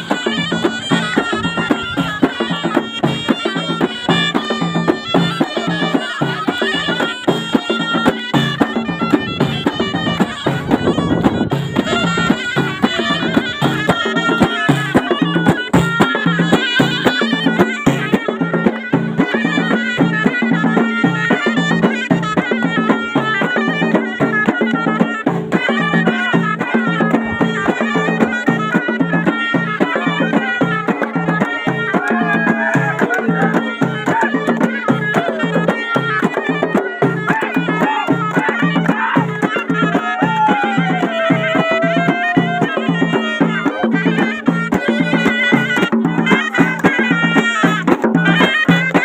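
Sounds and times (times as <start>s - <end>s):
shawm playing winding melody: 0.0s - 49.0s
steady drum beat: 0.0s - 49.0s.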